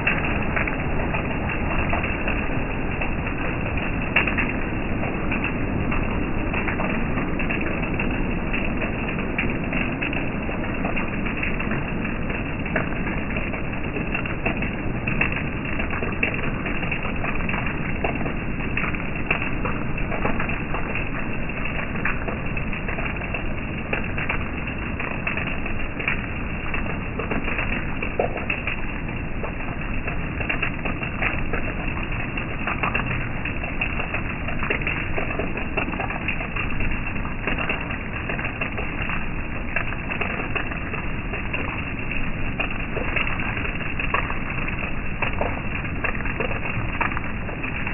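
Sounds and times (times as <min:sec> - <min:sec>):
steady rain falling: 0:00.0 - 0:47.9
water dripping: 0:00.0 - 0:47.9.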